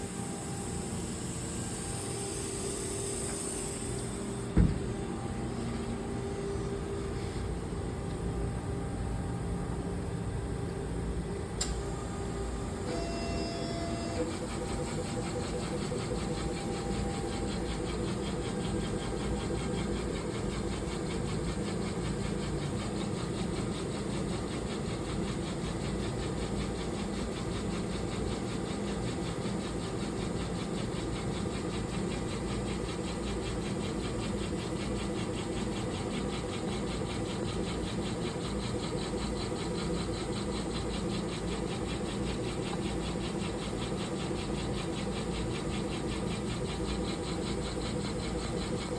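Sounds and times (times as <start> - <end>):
laser machine whirring and chattering: 0.0 - 4.5, 11.6 - 48.9.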